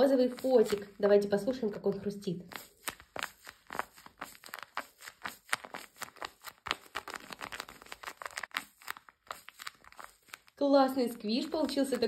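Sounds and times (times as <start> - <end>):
taped paper crunching and crinkling: 0.0 - 1.0, 2.5 - 12.0.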